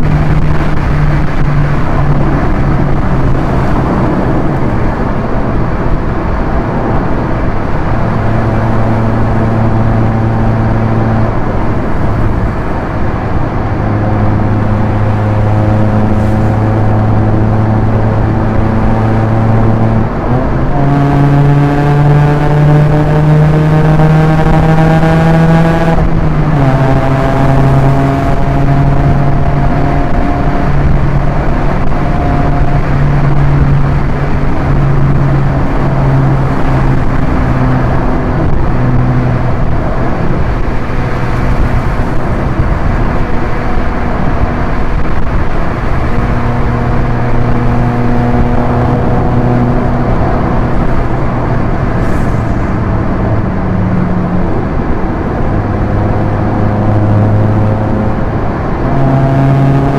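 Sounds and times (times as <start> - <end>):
car engine pulling steadily: 0.0 - 59.9
wind and tyre noise: 0.0 - 59.9.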